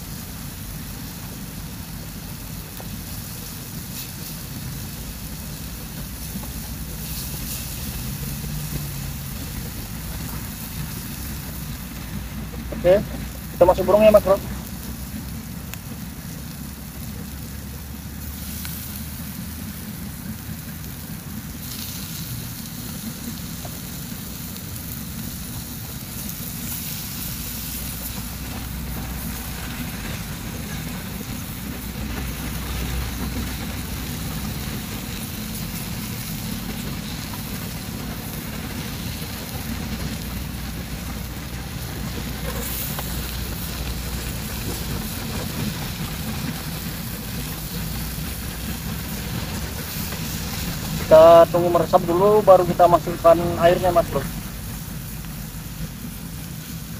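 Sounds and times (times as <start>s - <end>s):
gas burner flame roar: 0.0s - 56.9s
meat sizzling in a pan: 0.0s - 56.9s.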